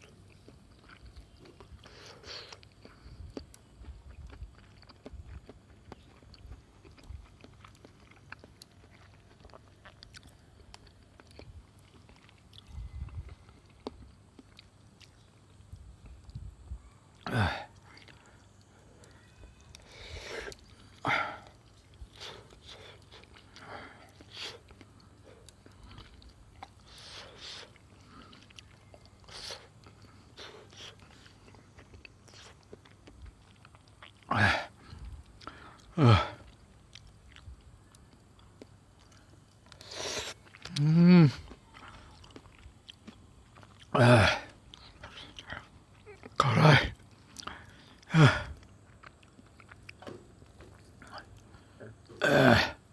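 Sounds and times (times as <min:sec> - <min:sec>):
food crunching: 0:00.0 - 0:52.2
person chewing food: 0:00.0 - 0:52.2.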